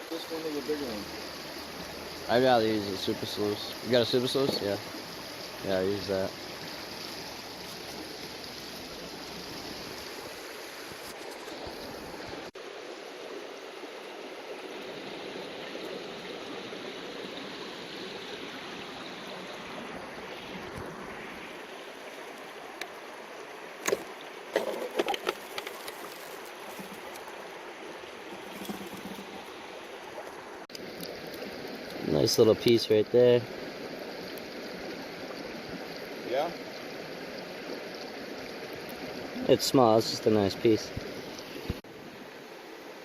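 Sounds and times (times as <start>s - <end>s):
flowing river water: 0.0s - 43.0s.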